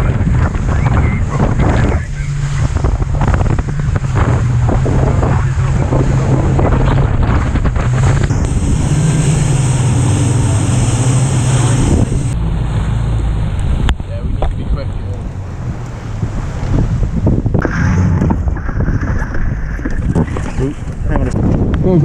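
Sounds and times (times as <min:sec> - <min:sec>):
outboard engines droning: 0:00.0 - 0:22.0
rushing water: 0:00.0 - 0:22.0
wind buffeting microphone: 0:00.0 - 0:22.0.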